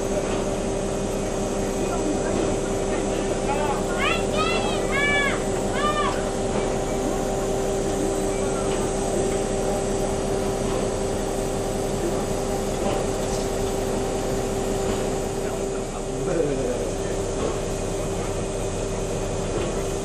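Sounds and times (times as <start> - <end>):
constant pitched hum: 0.0 - 20.0.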